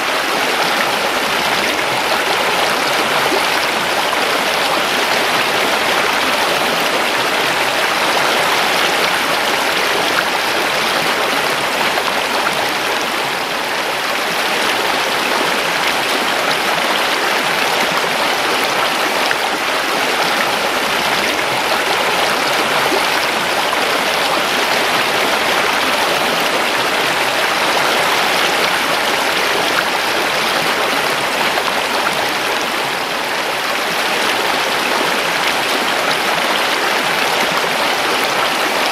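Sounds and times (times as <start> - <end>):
river water babbling over rocks: 0.0 - 38.9.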